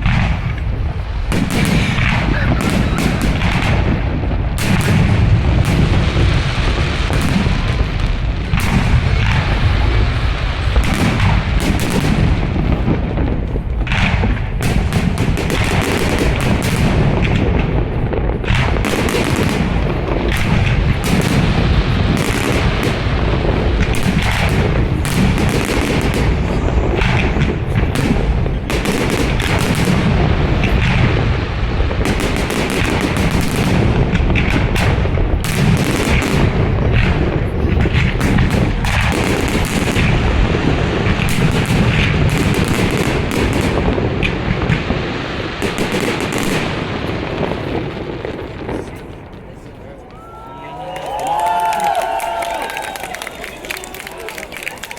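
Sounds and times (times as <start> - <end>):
fireworks bursts and bangs: 0.0 - 54.9.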